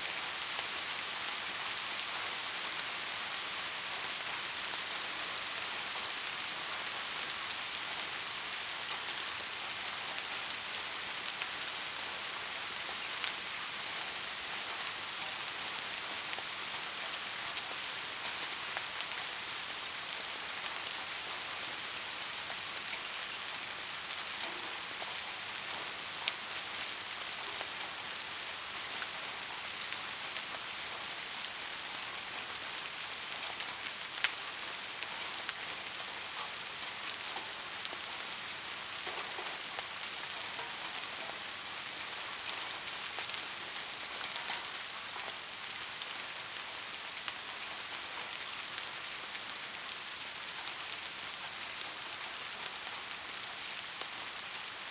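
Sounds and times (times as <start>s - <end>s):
soft rain hissing: 0.0s - 54.9s.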